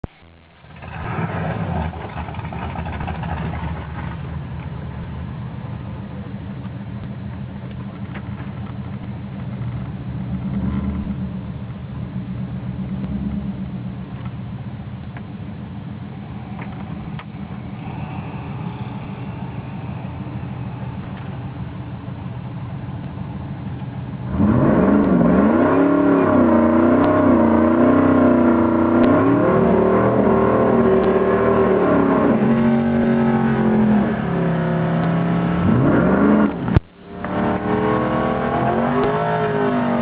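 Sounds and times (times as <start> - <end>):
engine running heard from cab: 0.0 - 40.0.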